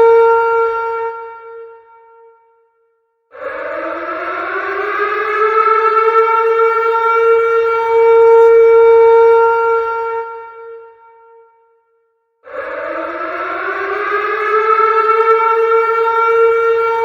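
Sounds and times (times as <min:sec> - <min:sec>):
warning siren wailing: 0:00.0 - 0:01.8, 0:03.4 - 0:10.9, 0:12.4 - 0:17.0.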